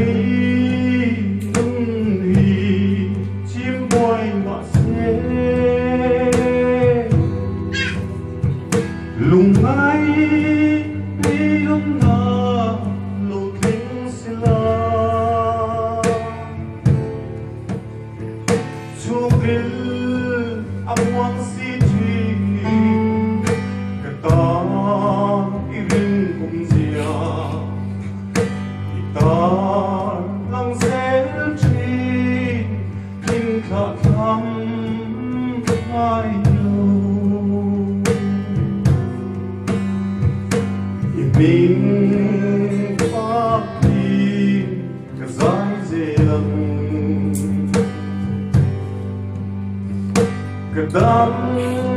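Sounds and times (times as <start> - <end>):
man singing into microphone: 0.0 - 17.2, 18.5 - 39.9, 40.7 - 48.9, 50.5 - 51.9
strummed amplified guitar: 0.0 - 51.9.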